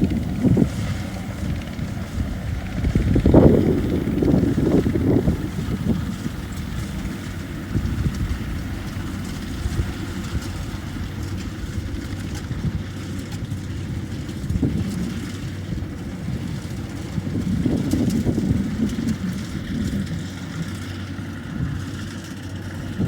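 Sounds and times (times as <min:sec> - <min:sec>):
harvester diesel engine droning: 0:00.0 - 0:23.0.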